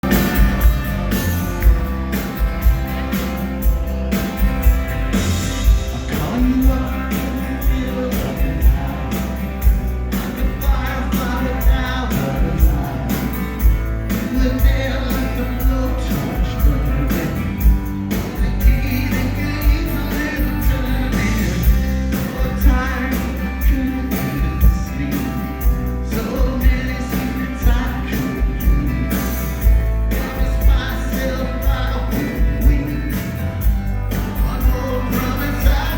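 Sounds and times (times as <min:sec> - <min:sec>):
guitars: 0:00.0 - 0:35.9
steady drum beat: 0:00.0 - 0:35.9
person singing: 0:05.6 - 0:35.9.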